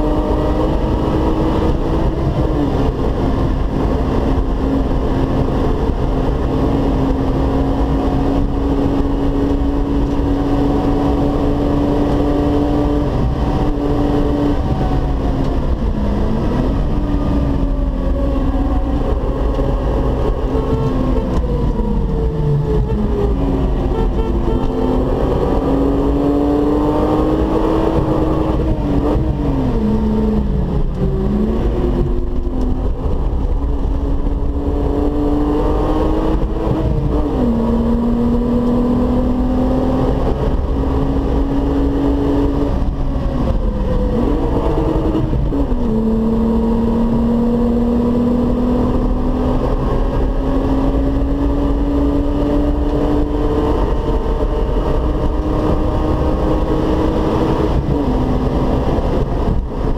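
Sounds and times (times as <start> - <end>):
car engine accelerating: 0.0 - 59.9
wind noise: 0.0 - 59.9.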